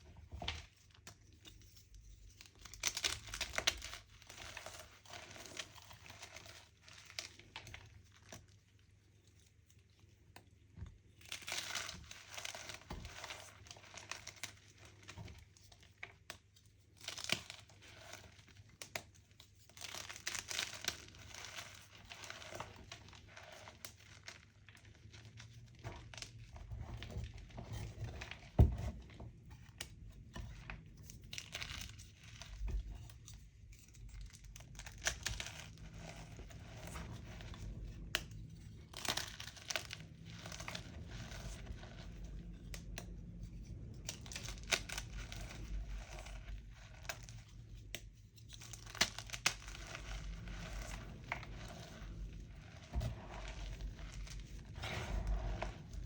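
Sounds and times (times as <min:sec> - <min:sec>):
chalk crushing and crackling: 0:00.6 - 0:56.0.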